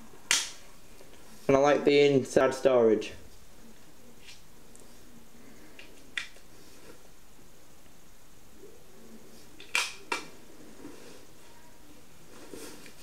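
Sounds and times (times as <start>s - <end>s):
low steady background noise: 0.0s - 13.0s.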